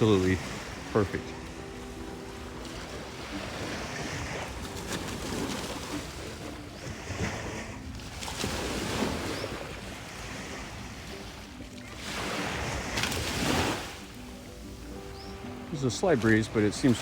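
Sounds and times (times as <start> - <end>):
small waves breaking on beach: 0.0 - 17.0.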